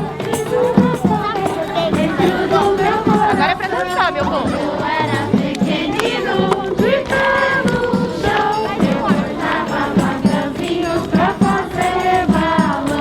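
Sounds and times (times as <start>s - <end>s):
group of voices singing: 0.0s - 13.0s
low drum beat: 0.0s - 13.0s.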